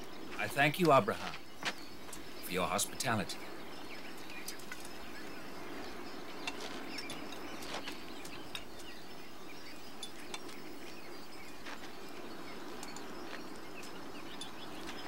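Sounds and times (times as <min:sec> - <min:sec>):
high chirps: 0:00.0 - 0:15.0
low hiss: 0:00.0 - 0:15.0.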